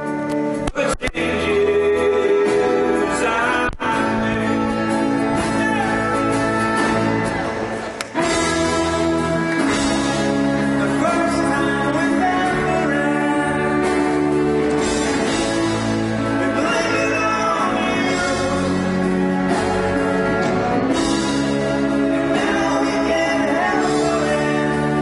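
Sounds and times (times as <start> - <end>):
live folk-rock band playing: 0.0 - 25.0
person singing: 0.0 - 25.0.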